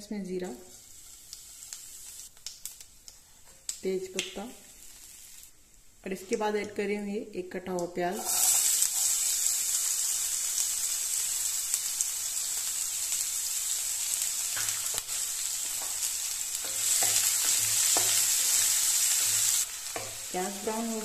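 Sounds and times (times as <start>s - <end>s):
onion sizzling in oil: 0.0s - 6.8s, 8.1s - 21.0s.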